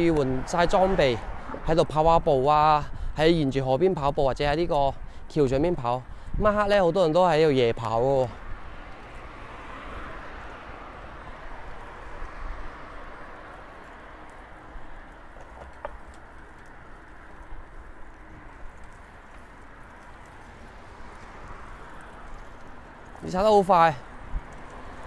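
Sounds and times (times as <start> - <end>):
bicycle tyres on pavement: 0.0 - 25.0.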